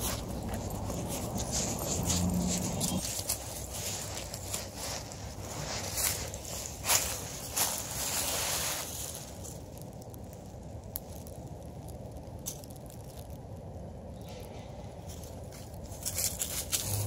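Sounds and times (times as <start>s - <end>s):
dry leaves rustling: 0.0s - 13.4s, 14.5s - 17.0s
low steady rumble: 0.0s - 17.0s.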